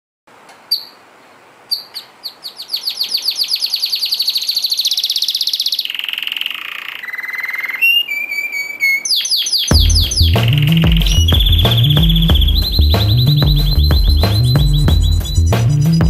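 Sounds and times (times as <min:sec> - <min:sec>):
canary singing: 0:00.7 - 0:01.0, 0:01.7 - 0:16.0.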